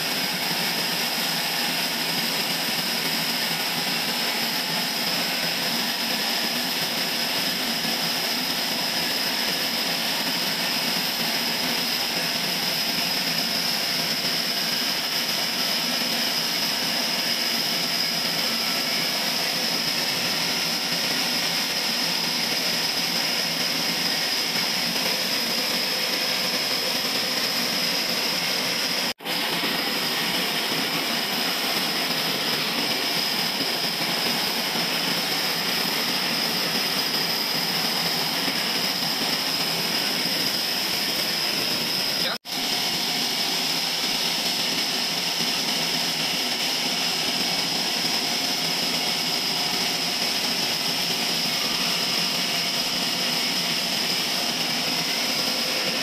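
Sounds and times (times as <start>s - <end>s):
band saw whining through log: 0.0s - 56.0s.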